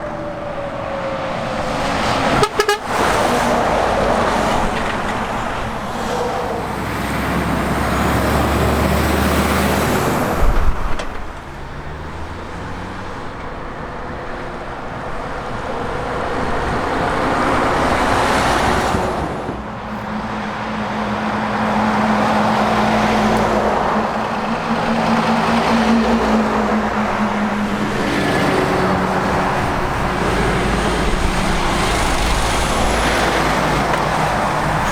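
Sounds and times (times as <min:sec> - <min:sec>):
heavy trucks passing: 0:00.0 - 0:34.9.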